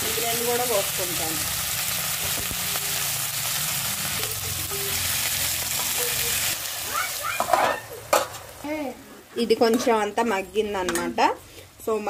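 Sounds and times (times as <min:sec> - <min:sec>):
vegetables sizzling in hot oil: 0:00.0 - 0:10.7.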